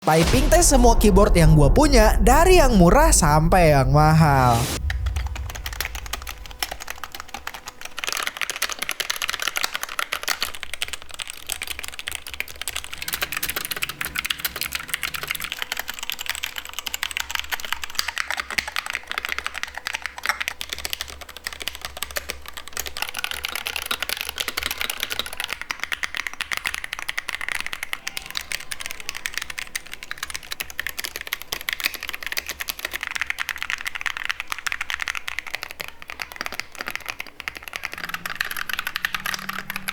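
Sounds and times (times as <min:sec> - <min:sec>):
fast keyboard typing: 0:04.2 - 0:39.9.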